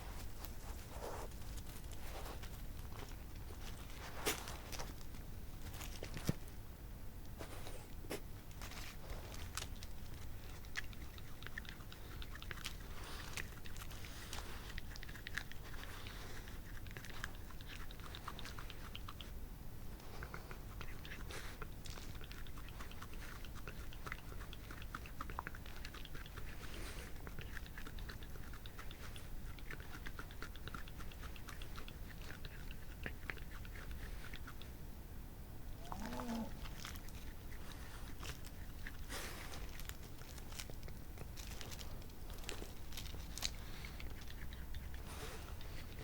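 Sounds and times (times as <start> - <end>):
badgers nibbling and scratching fur: 0.0 - 34.8, 35.7 - 46.0.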